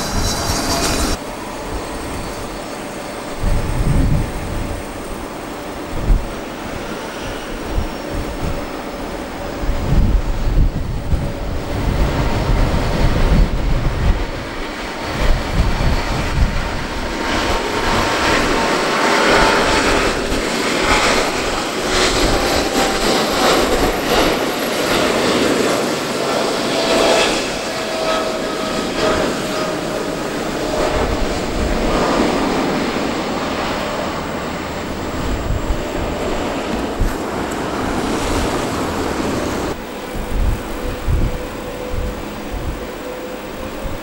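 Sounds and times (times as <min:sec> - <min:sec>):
jet engine roar: 0:00.0 - 0:44.0
jet engine whine: 0:00.0 - 0:44.0.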